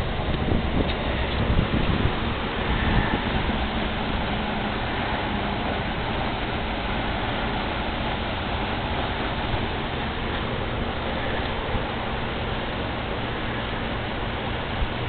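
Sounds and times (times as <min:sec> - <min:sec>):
air conditioning fans rushing: 0:00.0 - 0:15.0
low hum: 0:00.0 - 0:15.0.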